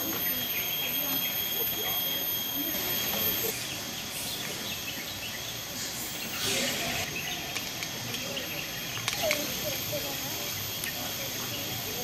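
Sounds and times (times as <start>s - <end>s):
distant chatter of people: 0.0s - 12.0s
high-pitched insect drone: 0.0s - 12.0s.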